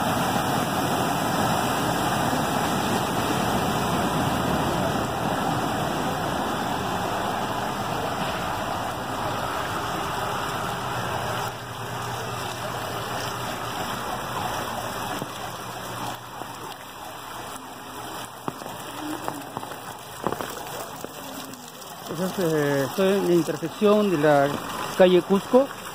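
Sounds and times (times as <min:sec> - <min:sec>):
heavy rain on a street: 0:00.0 - 0:25.9
water running along road: 0:00.0 - 0:25.9.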